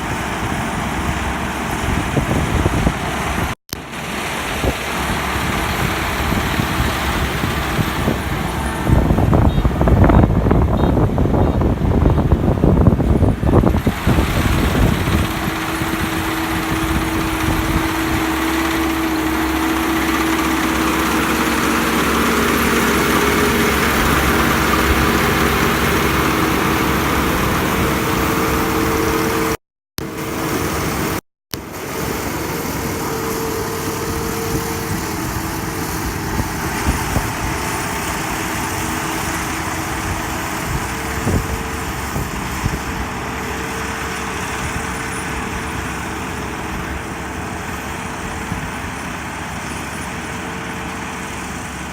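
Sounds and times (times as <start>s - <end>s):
combine harvester engine drone: 0.0s - 51.9s
machine whine: 3.7s - 51.9s.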